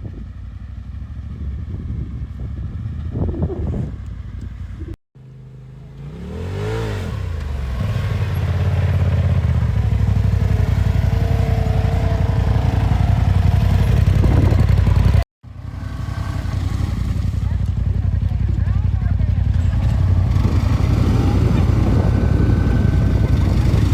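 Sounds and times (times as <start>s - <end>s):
off-road vehicle engine revving: 1.6s - 23.9s.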